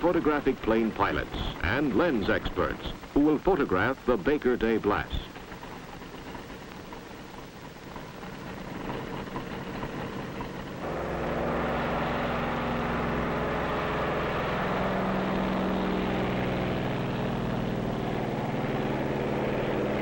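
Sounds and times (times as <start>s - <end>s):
propeller aircraft engines droning: 0.0s - 20.0s.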